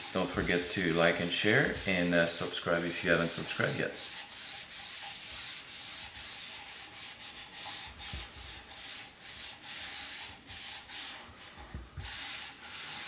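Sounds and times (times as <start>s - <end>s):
paper towel rubbing on wood: 0.0s - 13.0s.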